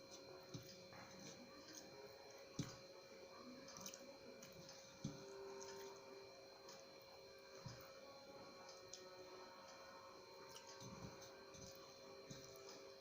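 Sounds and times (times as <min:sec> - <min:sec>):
soft wet chewing: 0:00.0 - 0:13.0.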